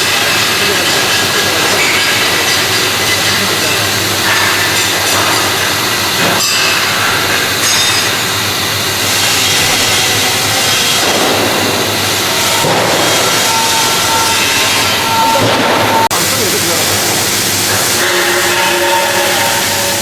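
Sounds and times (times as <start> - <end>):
welding machine crackling hiss: 0.0 - 20.0.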